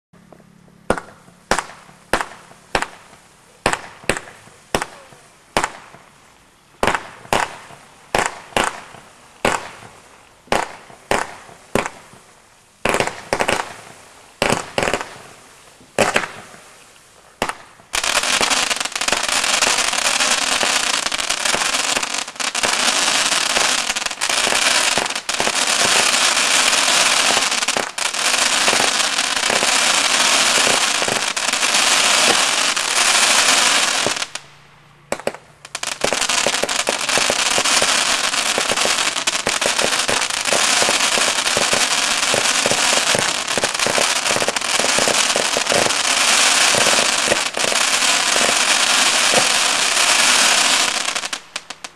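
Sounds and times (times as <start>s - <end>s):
dense firework crackling: 0.2s - 51.9s
firework shots launching: 0.8s - 6.1s, 6.8s - 15.4s, 16.0s - 16.8s, 17.4s - 34.4s, 35.1s - 51.9s.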